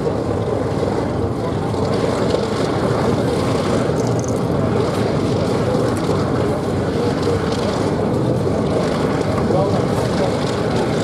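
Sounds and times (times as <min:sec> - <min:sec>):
aircraft piston engines droning: 0:00.0 - 0:11.0.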